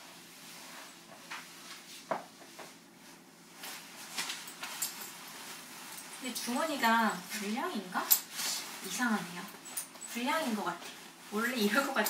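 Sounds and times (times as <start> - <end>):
nylon jacket rustling: 0.0 - 12.0.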